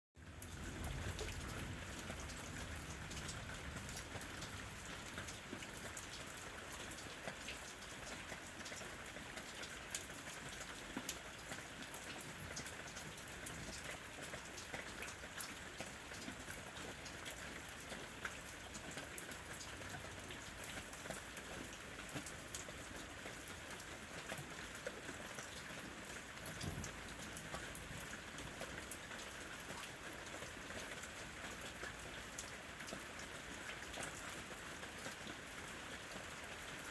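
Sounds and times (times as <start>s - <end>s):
rain falling: 0.2s - 36.9s.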